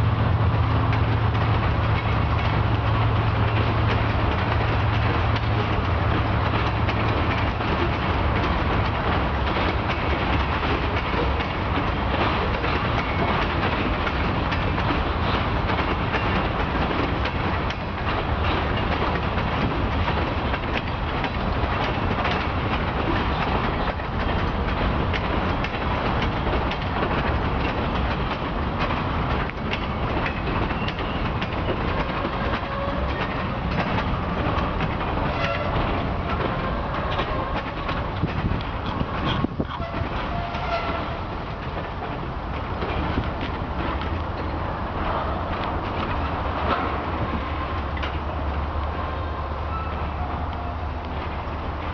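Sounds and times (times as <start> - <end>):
diesel locomotive drone: 0.0 - 51.9
train wheels clattering over rail joints: 0.0 - 51.9.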